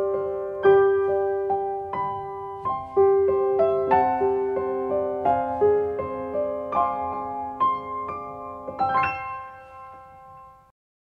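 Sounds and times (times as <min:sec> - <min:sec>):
soft piano music: 0:00.0 - 0:10.7.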